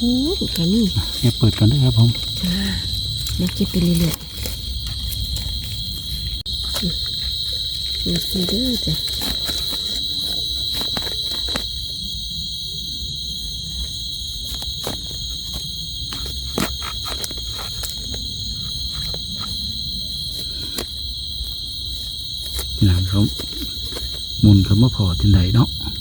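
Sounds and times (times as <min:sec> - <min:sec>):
night insect chorus trilling: 0:00.0 - 0:26.0.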